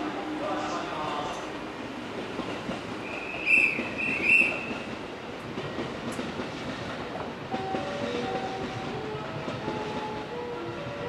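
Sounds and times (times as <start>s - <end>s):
train humming: 0.0s - 11.0s.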